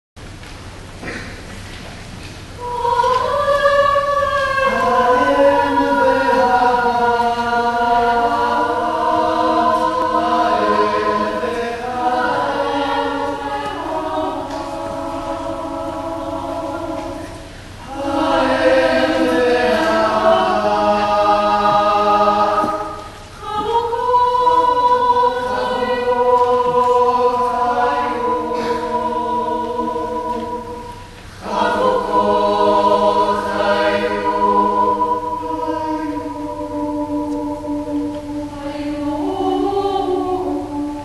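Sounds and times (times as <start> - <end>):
choir singing long chords: 2.6 - 41.0.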